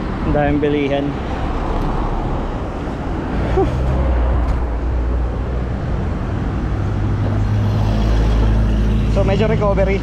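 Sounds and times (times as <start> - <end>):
road rumble: 0.0 - 10.0
vehicle engine hum: 0.0 - 10.0.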